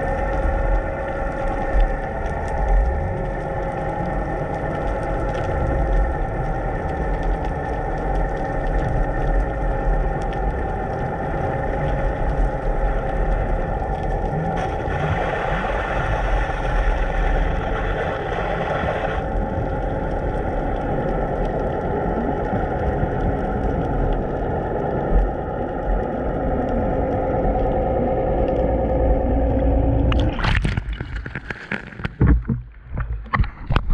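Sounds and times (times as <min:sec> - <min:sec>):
boat engine hum underwater: 0:00.0 - 0:33.9
water splashing and bubbling: 0:00.0 - 0:33.9.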